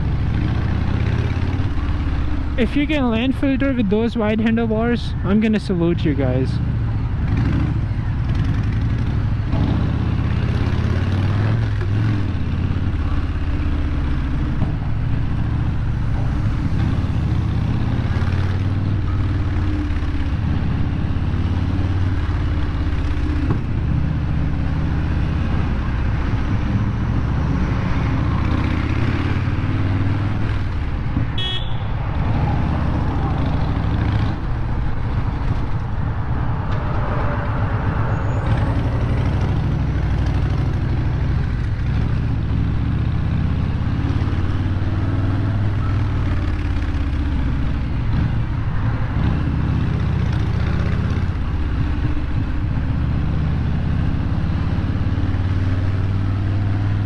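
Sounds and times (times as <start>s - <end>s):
motorcycle engine running: 0.0s - 57.0s
traffic noise: 0.0s - 57.0s.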